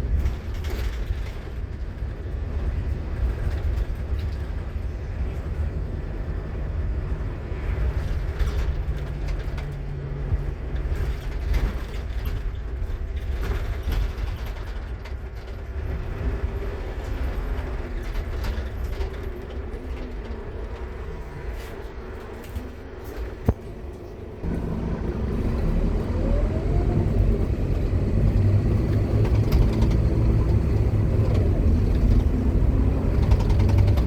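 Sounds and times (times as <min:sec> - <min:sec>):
bus diesel engine rumble: 0:00.0 - 0:34.0.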